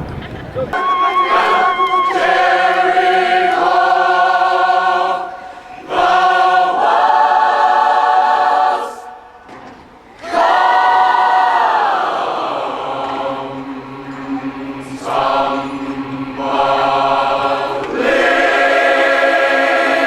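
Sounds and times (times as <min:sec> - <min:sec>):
choir singing held chords: 0:00.7 - 0:20.0.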